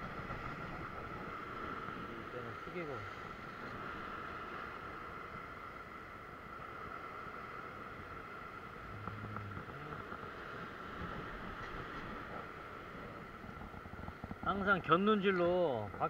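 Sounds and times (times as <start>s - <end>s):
surf washing against rocks: 0.0s - 16.0s.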